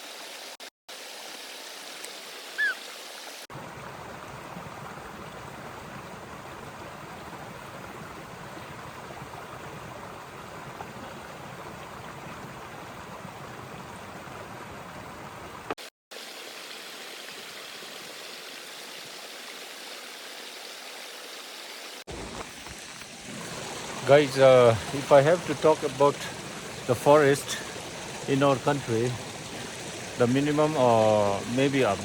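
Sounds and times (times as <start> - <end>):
stream running over rocks: 0.0 - 32.0.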